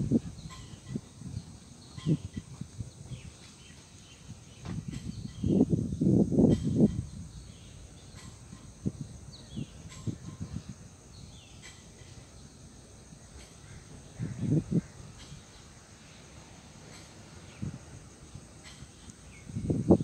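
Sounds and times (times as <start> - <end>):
high insect drone: 0.0 - 20.0
wind buffeting microphone: 0.0 - 20.0.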